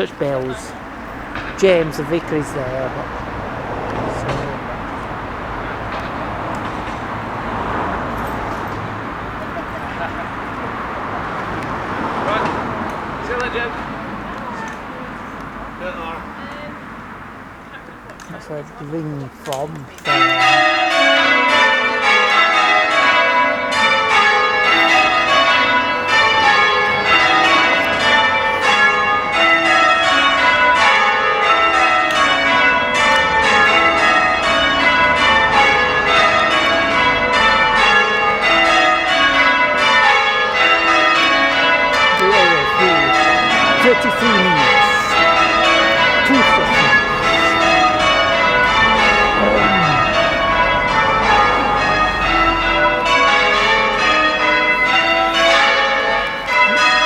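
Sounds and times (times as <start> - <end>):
church bells ringing: 0.0 - 16.4, 18.2 - 57.0.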